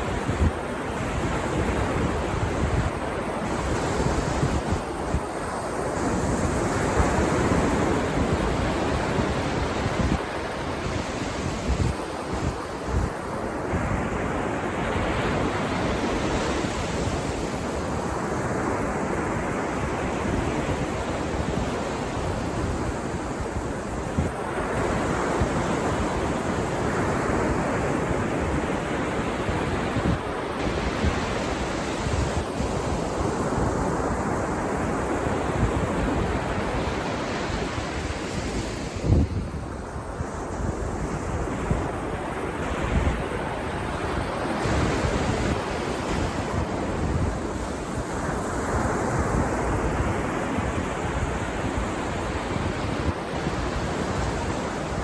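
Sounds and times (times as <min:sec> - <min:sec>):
ocean surf breaking on beach: 0:00.0 - 0:55.0
wind rumbling on microphone: 0:00.0 - 0:55.0.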